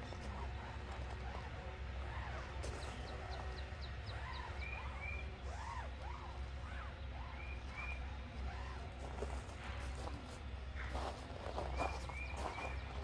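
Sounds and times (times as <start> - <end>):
birds chirping and calling: 0.0 - 9.3, 10.8 - 13.0.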